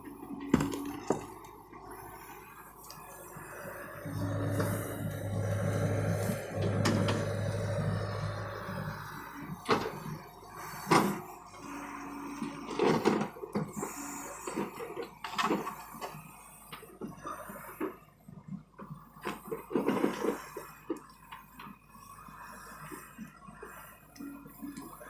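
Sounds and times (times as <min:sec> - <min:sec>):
excavator engine hum: 0:00.0 - 0:25.0.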